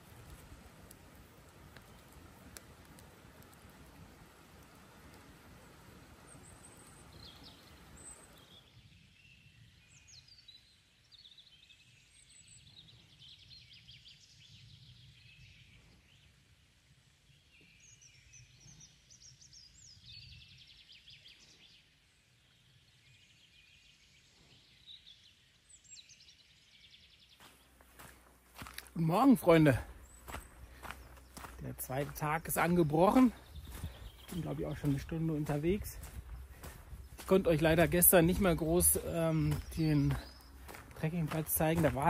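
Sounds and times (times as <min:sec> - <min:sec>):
songbirds singing: 0:00.0 - 0:42.0.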